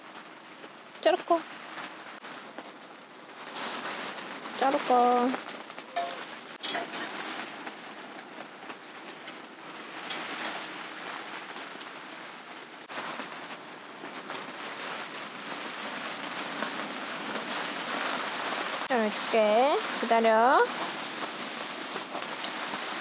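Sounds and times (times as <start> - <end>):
rain pattering on a tent: 0.0 - 23.0.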